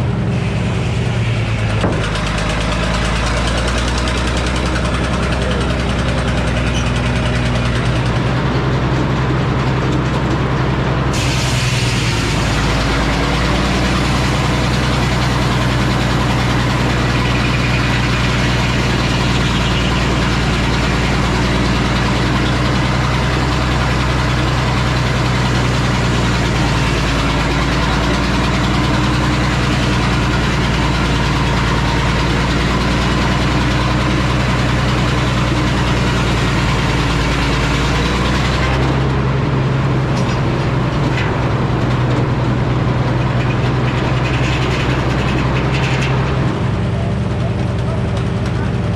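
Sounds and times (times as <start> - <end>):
sawmill engine droning: 0.0 - 48.9.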